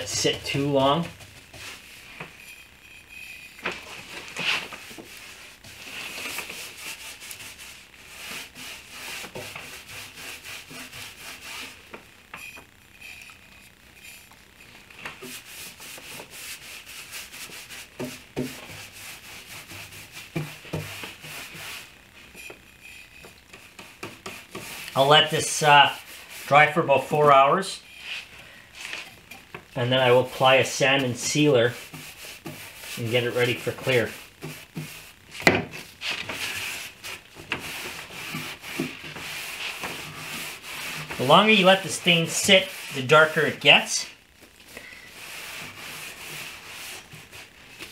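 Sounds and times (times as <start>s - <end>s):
brush rubbing on wood: 0.0s - 12.0s, 12.9s - 29.2s, 29.8s - 44.2s, 45.1s - 47.9s.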